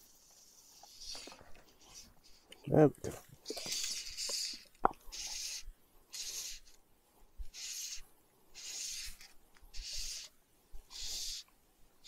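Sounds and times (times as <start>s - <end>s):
fly line rasping through rod guides: 0.0s - 2.7s, 3.4s - 6.8s, 7.4s - 11.6s.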